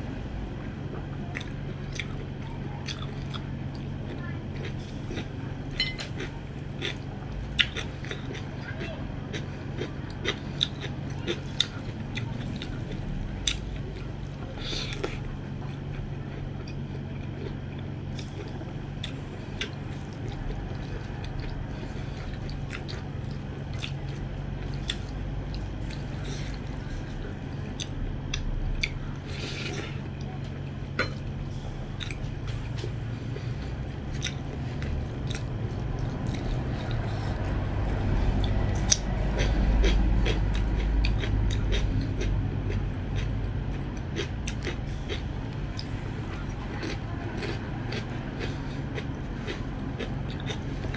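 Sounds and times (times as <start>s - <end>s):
low hum: 0.0s - 50.9s
wet chewing: 1.2s - 50.9s.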